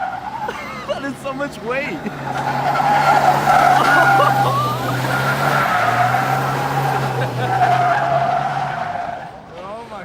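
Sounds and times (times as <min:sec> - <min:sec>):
pickup engine drone: 0:00.0 - 0:09.2
tires squealing: 0:00.0 - 0:10.0.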